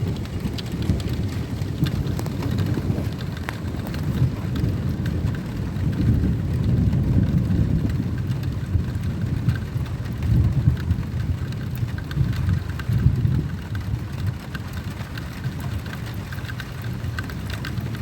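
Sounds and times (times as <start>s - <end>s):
low rumble of thunder: 0.0s - 18.0s
rain falling: 0.0s - 18.0s.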